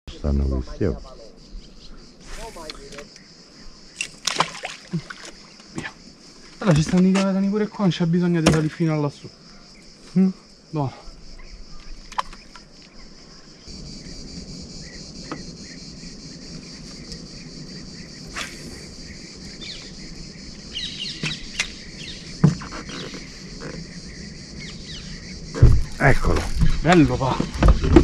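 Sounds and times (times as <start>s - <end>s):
crickets chirring: 0.1s - 28.0s.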